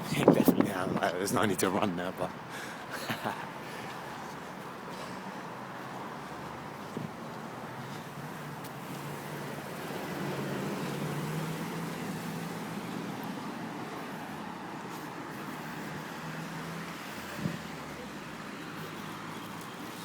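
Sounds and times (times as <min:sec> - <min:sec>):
passing vehicle engine hum: 0:03.4 - 0:20.0.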